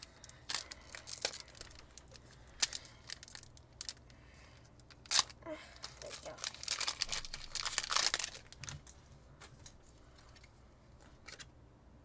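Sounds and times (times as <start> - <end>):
cards and wrappers crinkling: 0.0 - 11.5.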